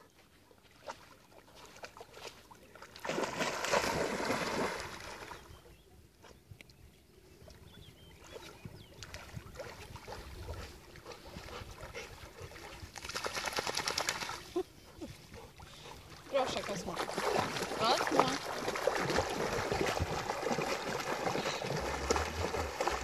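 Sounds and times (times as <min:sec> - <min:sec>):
water sloshing and splashing: 0:00.1 - 0:05.5, 0:07.4 - 0:23.0.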